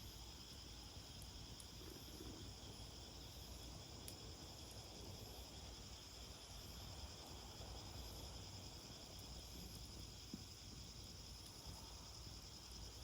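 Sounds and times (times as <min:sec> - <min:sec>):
insect chorus chirring: 0:00.0 - 0:13.0.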